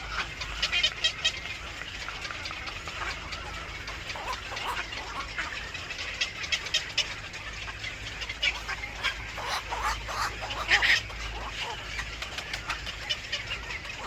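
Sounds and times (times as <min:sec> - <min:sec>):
birds chirping and squawking: 0:00.0 - 0:14.0
steady low hum: 0:01.6 - 0:14.0.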